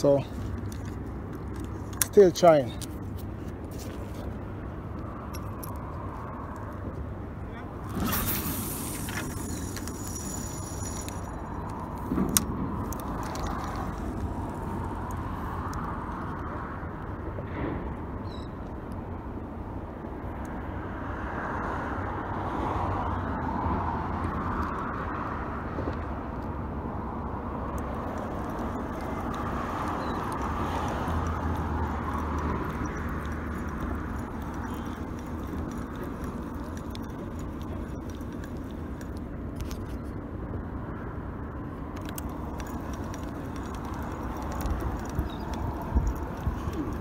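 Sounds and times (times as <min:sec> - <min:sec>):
cars passing on a bridge: 0:00.0 - 0:47.0
low traffic rumble: 0:00.0 - 0:47.0.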